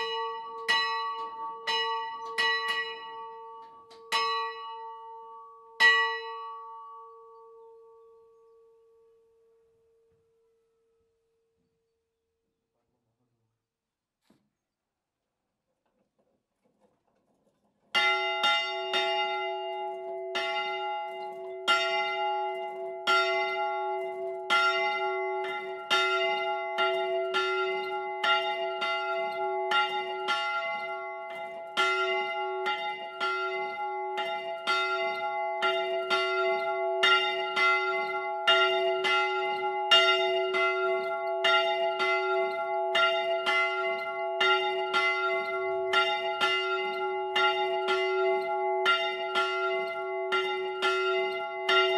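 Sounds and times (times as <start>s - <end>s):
church bell ringing: 0.0s - 9.8s, 17.9s - 51.9s.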